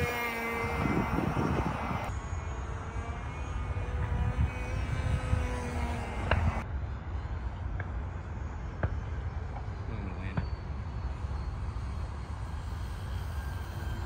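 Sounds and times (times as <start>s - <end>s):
model plane engine droning: 0.0s - 14.0s.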